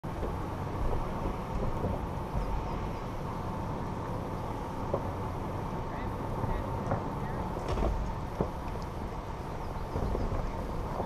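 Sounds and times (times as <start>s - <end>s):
vehicle rumbling over gravel: 0.0s - 11.0s.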